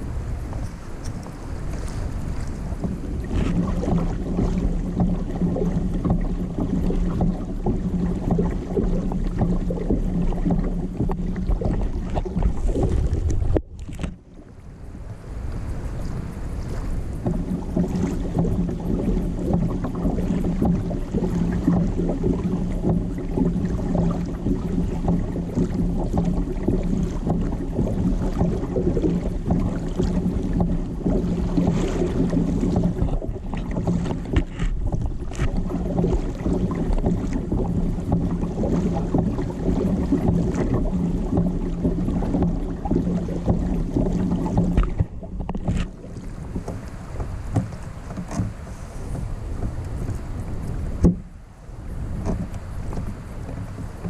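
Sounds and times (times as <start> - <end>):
boat motor humming: 0.0 - 54.0
water noise: 0.0 - 54.0
wind: 0.0 - 54.0.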